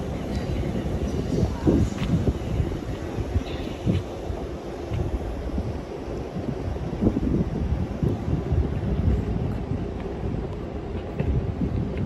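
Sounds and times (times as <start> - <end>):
train rumbling: 0.0 - 12.0
wind buffeting microphone: 0.0 - 12.0.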